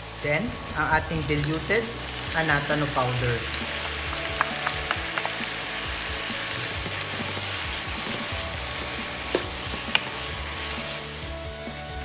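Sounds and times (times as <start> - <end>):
meat sizzling in oil: 0.0 - 12.0
utensil clacking against pan: 0.7 - 11.3.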